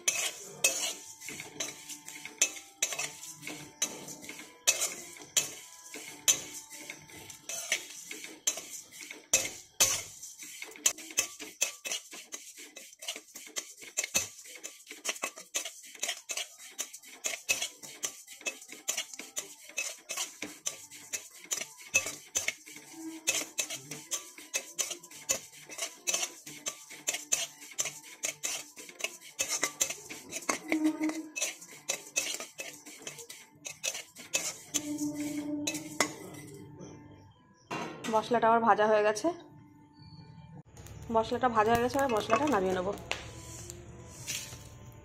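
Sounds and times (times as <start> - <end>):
metal spatula scraping spices: 0.0 - 36.7, 40.8 - 45.0.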